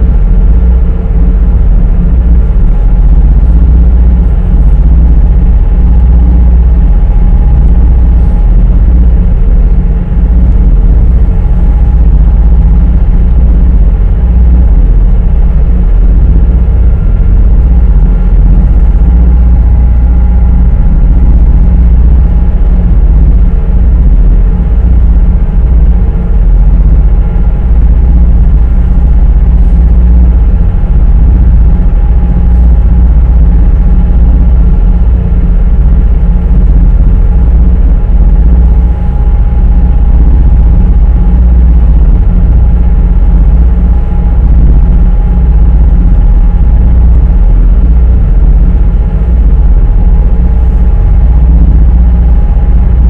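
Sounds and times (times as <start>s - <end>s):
ferry engines droning: 0.0s - 42.8s
faint engine whine: 0.0s - 53.0s.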